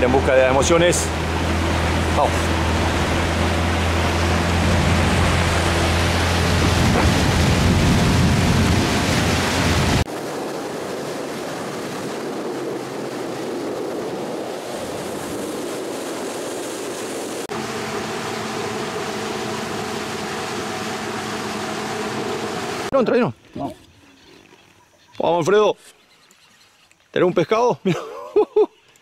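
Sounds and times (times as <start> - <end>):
boat rushing through water: 0.0 - 23.3.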